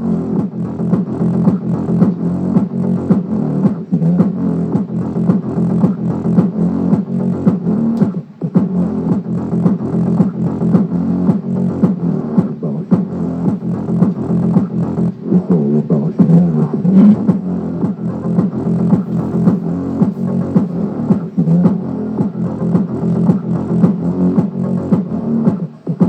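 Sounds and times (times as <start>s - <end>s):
bass-heavy music through subwoofer: 0.0s - 26.0s.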